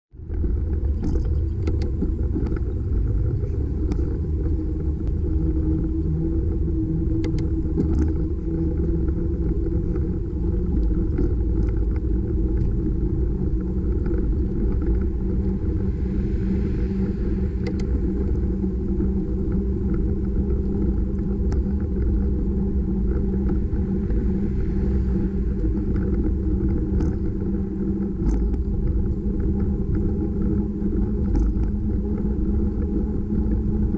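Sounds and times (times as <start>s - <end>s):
road noise: 0.1s - 33.9s
wind rumble on microphone: 0.1s - 33.9s
small clicks and rattles: 0.2s - 15.9s, 17.6s - 24.7s, 25.5s - 33.9s.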